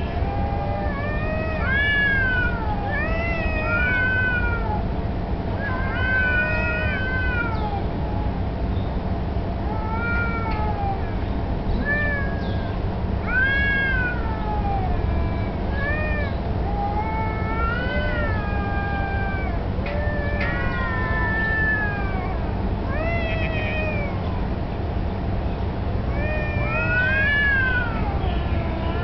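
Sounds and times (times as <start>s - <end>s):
cats yowling: 0.0s - 8.7s, 9.5s - 24.6s, 26.0s - 29.0s.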